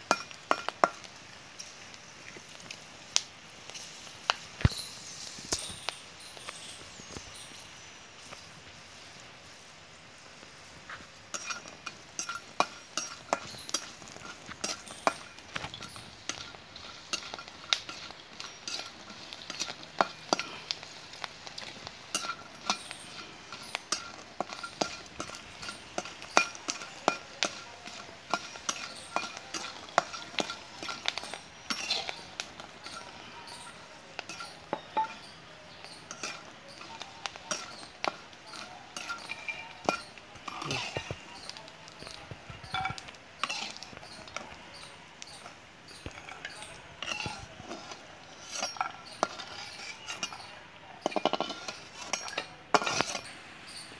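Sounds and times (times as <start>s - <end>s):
metal spatula scraping wok: 10.6s - 53.9s.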